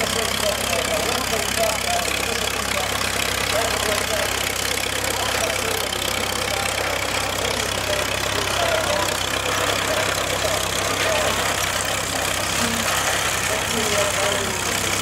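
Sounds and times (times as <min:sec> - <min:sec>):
faint voices: 0:00.0 - 0:15.0
tractor engine running: 0:00.0 - 0:15.0.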